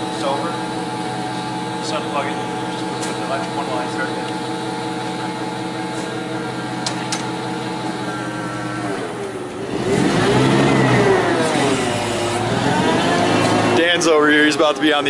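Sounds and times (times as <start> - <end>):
forklift engine idling and revving: 0.0 - 15.0.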